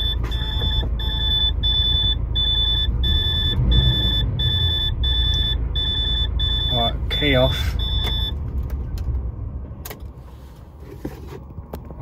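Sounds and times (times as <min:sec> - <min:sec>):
diesel engine idling: 0:00.0 - 0:09.8.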